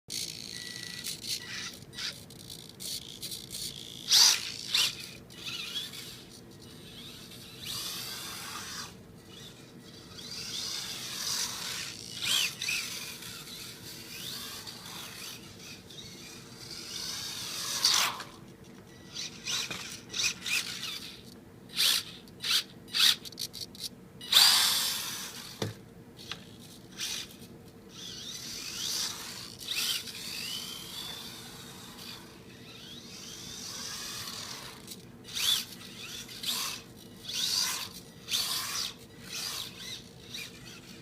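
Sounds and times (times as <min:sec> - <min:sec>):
toy truck electric motor whining: 0:00.1 - 0:18.4, 0:19.0 - 0:25.6, 0:26.2 - 0:41.0.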